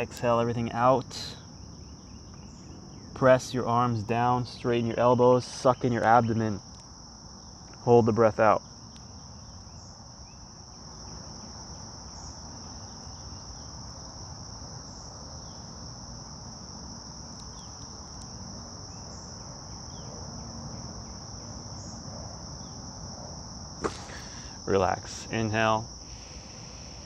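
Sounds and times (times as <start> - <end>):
high-pitched insect chorus: 0.0 - 27.0
low background noise: 0.0 - 27.0.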